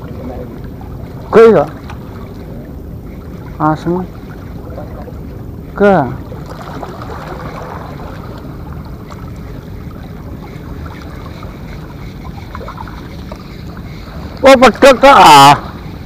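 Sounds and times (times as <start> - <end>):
small waves lapping against rocks: 0.0 - 15.9
wind: 0.0 - 16.0.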